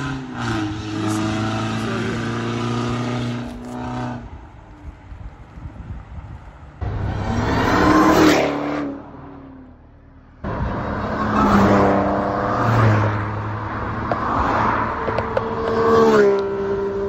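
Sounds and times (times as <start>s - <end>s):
car engines revving: 0.0s - 5.6s, 6.3s - 17.0s.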